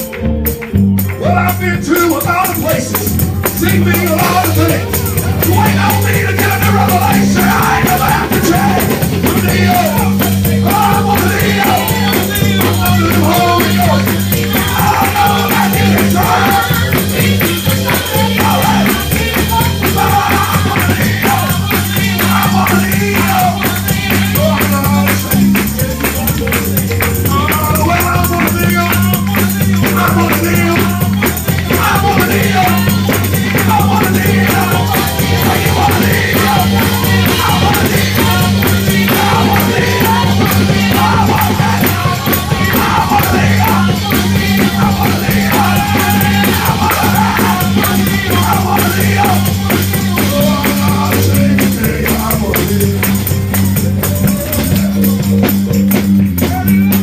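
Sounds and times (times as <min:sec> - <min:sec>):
fast tambourine beat: 0:00.0 - 0:57.0
voices singing gospel: 0:00.0 - 0:57.0
held bass note: 0:02.7 - 0:57.0.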